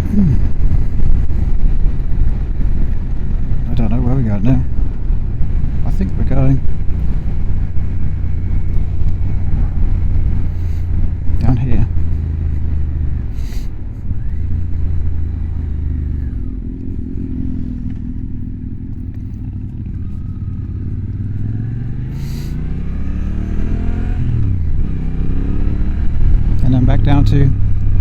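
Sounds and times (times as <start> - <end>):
motorcycle engine accelerating: 0.0 - 28.0
wind and road noise: 0.0 - 28.0.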